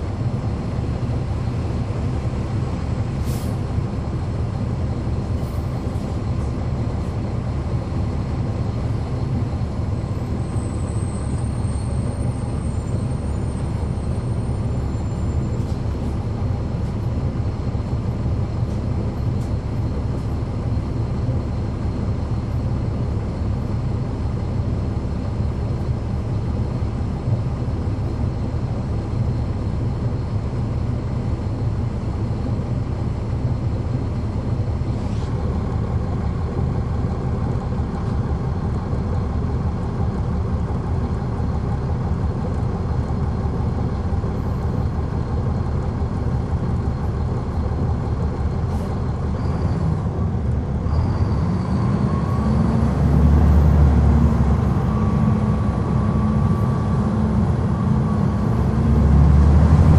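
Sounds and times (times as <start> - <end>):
bus diesel engine rumble: 0.0 - 59.9.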